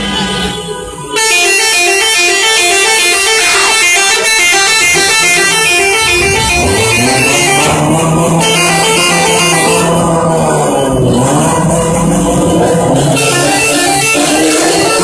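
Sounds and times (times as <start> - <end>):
musical vehicle horn melody: 0.2 - 15.0.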